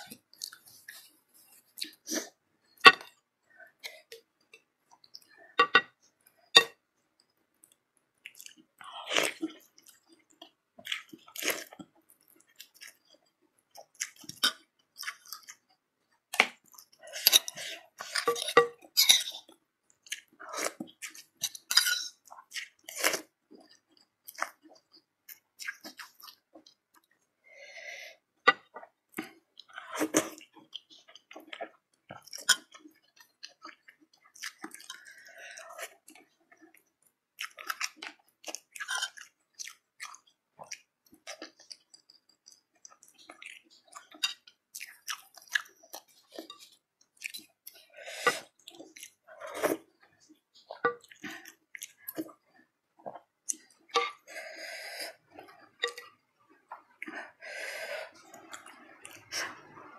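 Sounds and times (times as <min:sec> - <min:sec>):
wet chewing and smacking: 0:03.8 - 0:27.3, 0:28.5 - 0:54.4, 0:58.0 - 0:59.9.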